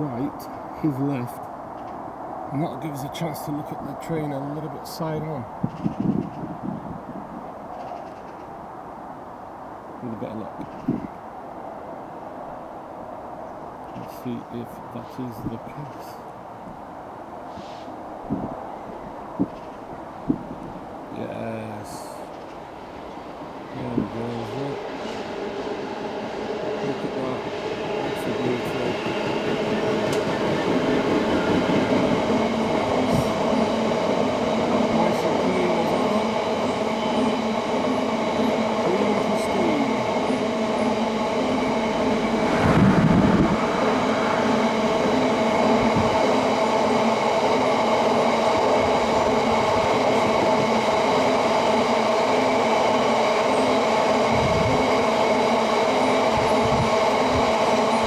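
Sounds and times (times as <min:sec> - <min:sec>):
freight train passing slowly: 0:00.0 - 0:58.0.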